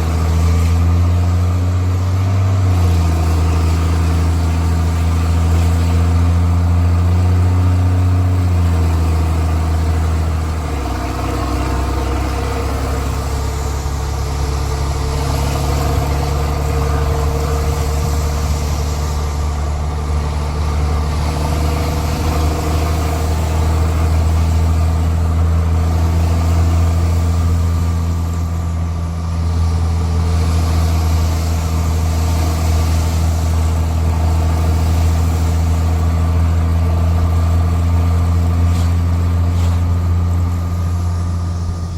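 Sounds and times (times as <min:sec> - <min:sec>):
diesel bus engine running: 0:00.0 - 0:41.9.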